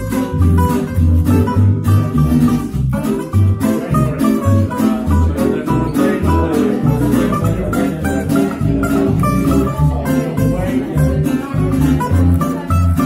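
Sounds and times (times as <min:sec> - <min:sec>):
double bass plucked: 0:00.0 - 0:13.0
higher plucked string notes: 0:00.0 - 0:13.0.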